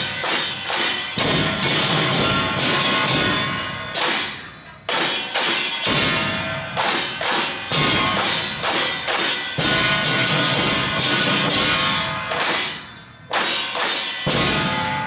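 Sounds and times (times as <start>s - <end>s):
drums playing: 0.0s - 15.0s.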